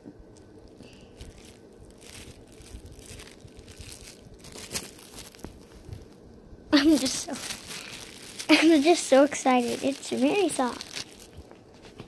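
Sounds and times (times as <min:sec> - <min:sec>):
plastic packaging crinkling: 0:00.3 - 0:06.2, 0:06.8 - 0:12.0.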